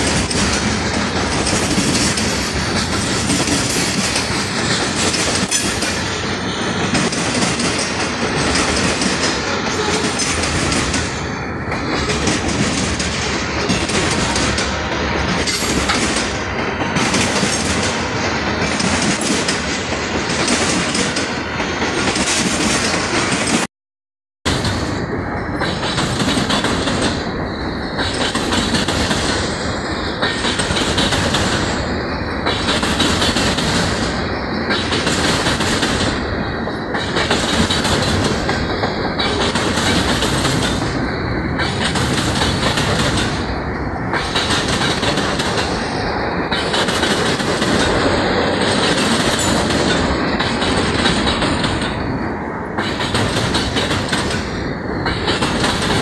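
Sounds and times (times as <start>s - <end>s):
freight train wheels clattering on rails: 0.0s - 23.7s, 24.5s - 56.0s.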